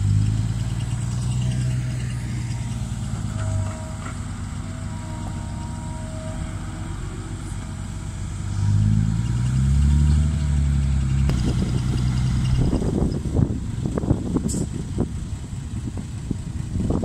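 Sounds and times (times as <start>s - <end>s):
diesel truck engine accelerating: 0.0s - 17.0s.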